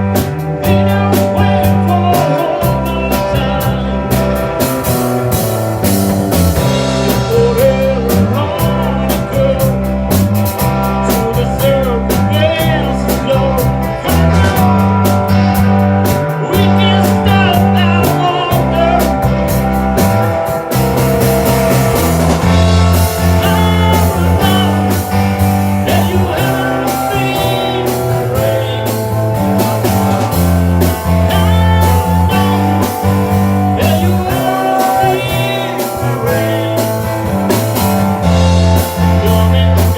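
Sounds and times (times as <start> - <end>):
electric guitar lead: 0.0 - 39.9
rock band playing: 0.0 - 39.9
person singing: 0.1 - 4.8, 6.6 - 15.4, 16.3 - 19.4, 22.4 - 39.9.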